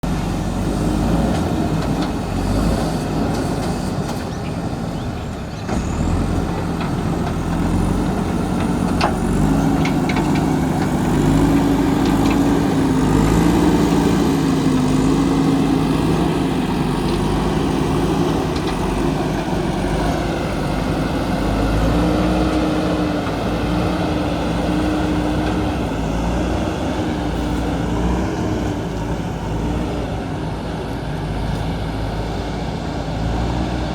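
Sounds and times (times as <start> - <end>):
diesel engine under load: 0.0 - 33.9.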